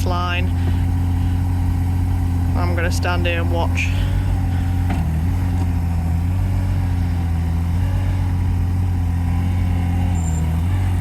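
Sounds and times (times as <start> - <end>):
loader engine humming: 0.0 - 11.0.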